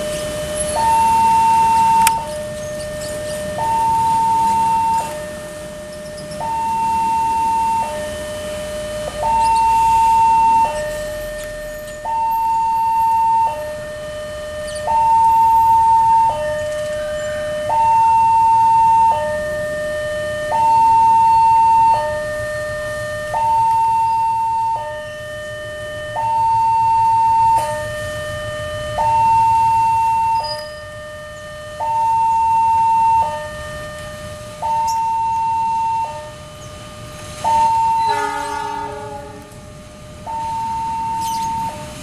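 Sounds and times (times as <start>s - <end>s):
diesel locomotive rumble: 0.0s - 42.0s
two-tone warning siren: 0.0s - 42.0s.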